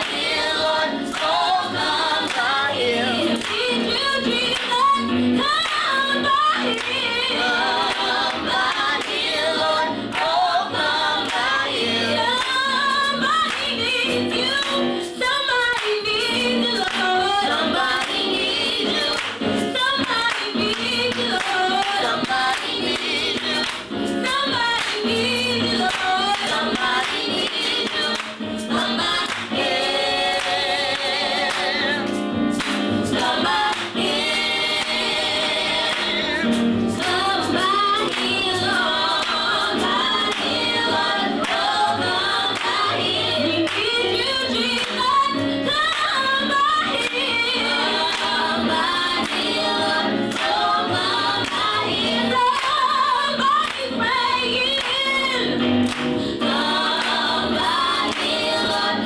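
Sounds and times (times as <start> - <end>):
women singing gospel: 0.0 - 59.0.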